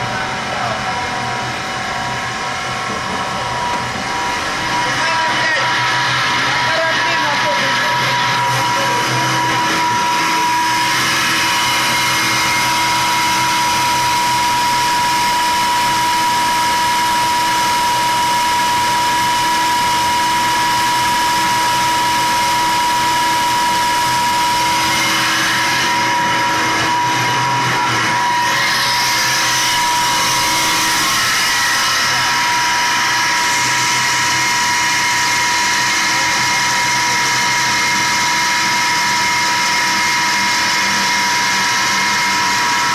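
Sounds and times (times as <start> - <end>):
pump motor whine: 0.0 - 42.9.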